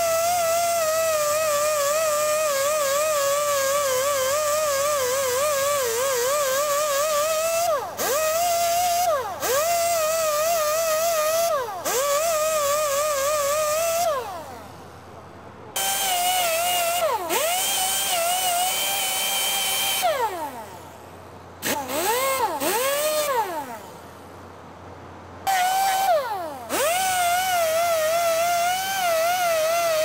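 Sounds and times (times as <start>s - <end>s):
air grinder whining: 0.0s - 14.7s, 15.8s - 21.0s, 21.6s - 24.1s, 25.5s - 30.0s.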